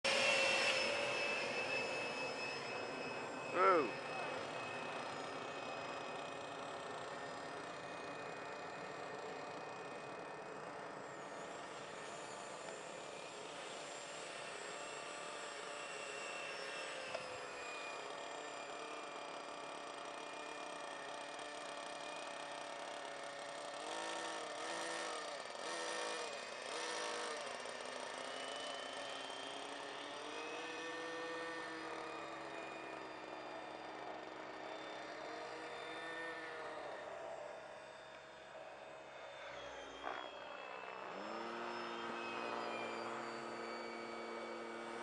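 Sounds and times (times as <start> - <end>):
electric jet fan whining: 0.1 - 45.0.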